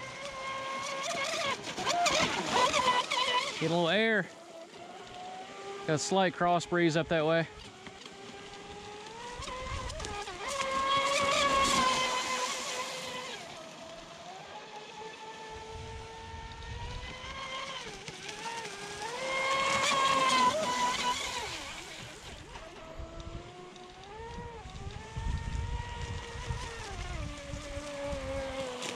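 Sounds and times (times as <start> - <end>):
speedboat motor whine: 0.0 - 28.9.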